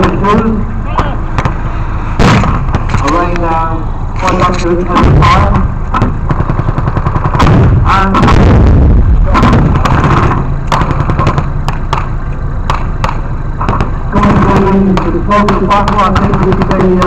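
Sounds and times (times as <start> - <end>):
continuous low rumble: 0.0 - 17.0
gunshots: 1.3 - 3.4, 4.2 - 17.0.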